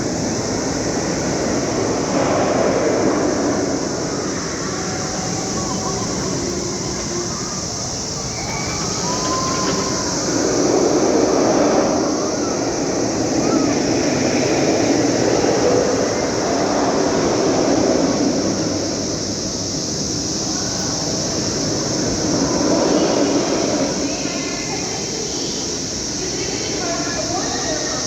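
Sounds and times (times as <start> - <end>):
cicadas droning: 0.0 - 28.0.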